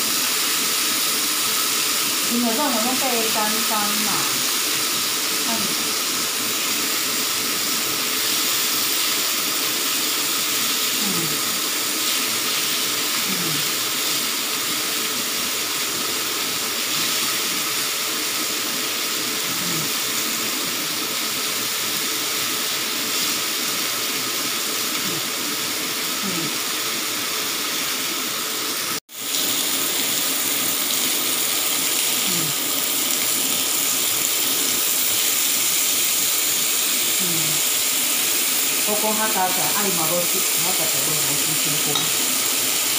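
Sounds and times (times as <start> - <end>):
chicken sizzling on a grill pan: 0.0 - 42.9.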